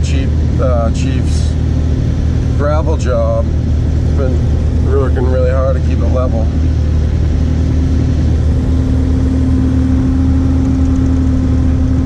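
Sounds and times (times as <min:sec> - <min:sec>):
high steady hum: 0:00.0 - 0:12.0.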